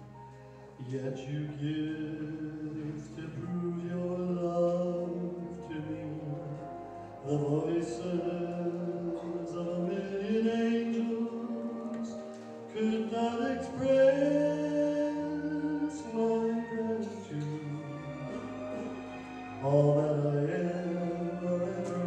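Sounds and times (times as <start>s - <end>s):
man singing: 0.8s - 22.0s.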